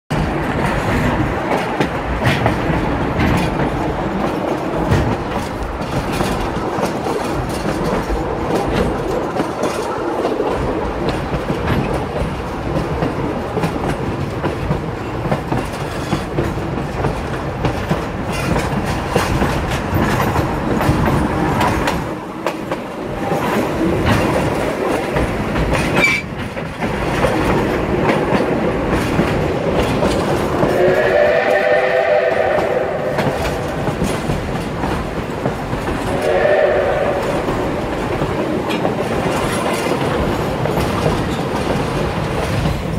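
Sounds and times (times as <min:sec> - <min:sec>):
train wheels clacking on rails: 0:00.1 - 0:42.9.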